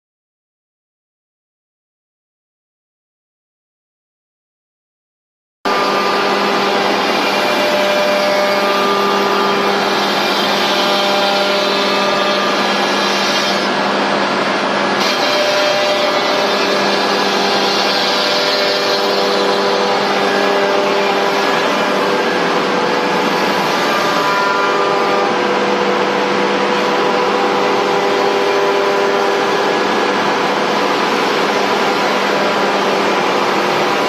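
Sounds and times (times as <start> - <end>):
router spindle whine: 5.7 - 34.0.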